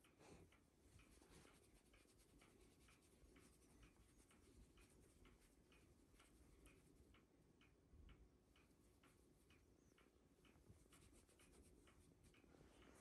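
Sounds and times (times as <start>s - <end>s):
clock ticking faintly: 0.0s - 13.0s.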